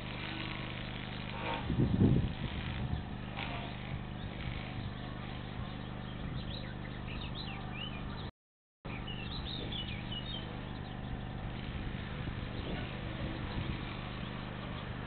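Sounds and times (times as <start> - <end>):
low microphone hum: 0.0 - 8.3, 8.9 - 15.0
small birds chirping: 0.0 - 8.3, 8.9 - 15.0.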